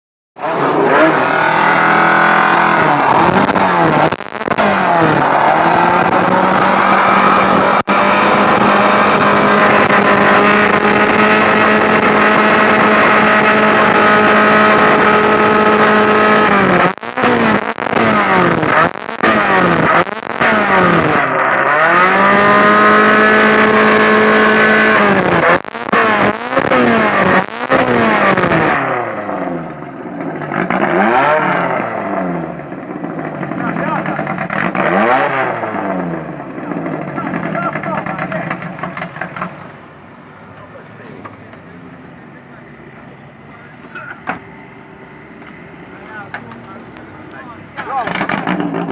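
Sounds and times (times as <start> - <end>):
car engine revving hard: 0.4 - 39.6, 48.0 - 48.9.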